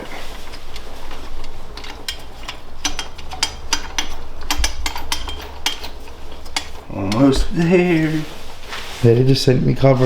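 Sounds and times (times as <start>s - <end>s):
hand tools clinking on metal: 0.0s - 8.3s.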